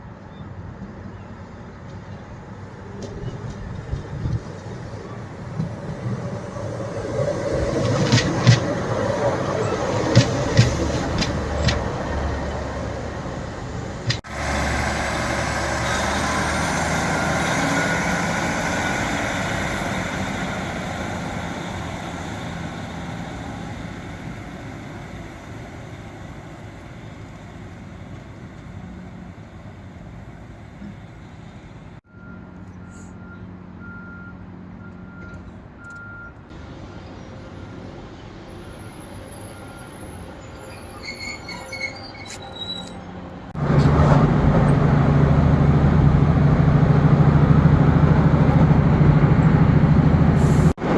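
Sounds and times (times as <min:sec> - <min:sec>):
diesel train running: 0:00.0 - 0:50.9.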